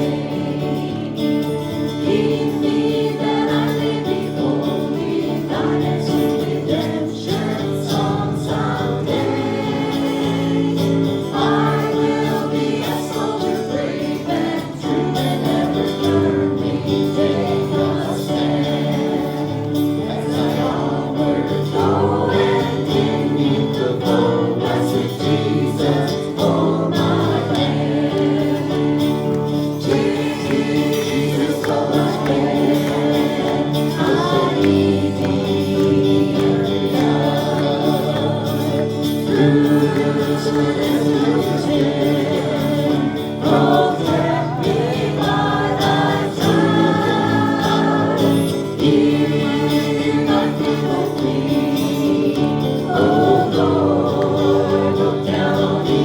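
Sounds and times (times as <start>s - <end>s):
group singing a gospel hymn: 0.0s - 56.0s.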